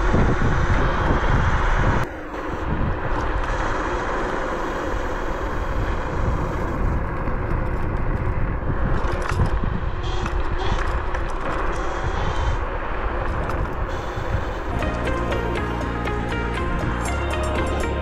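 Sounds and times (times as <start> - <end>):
wind rush: 0.0 - 17.2
road rumble: 0.0 - 18.0.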